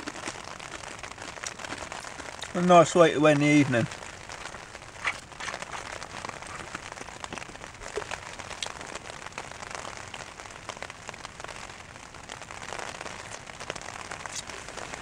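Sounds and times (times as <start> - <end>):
rain pattering on a tent: 0.0 - 15.0.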